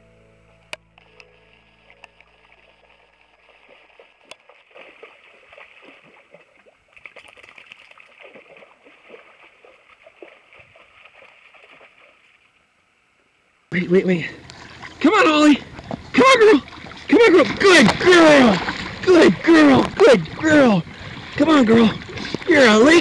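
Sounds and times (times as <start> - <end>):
dog splashing in shallow water: 1.6 - 12.5, 14.4 - 23.0.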